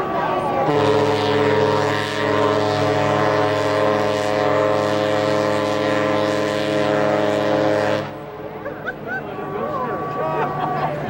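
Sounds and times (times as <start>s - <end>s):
ship's horn long deep blast: 0.0s - 11.0s.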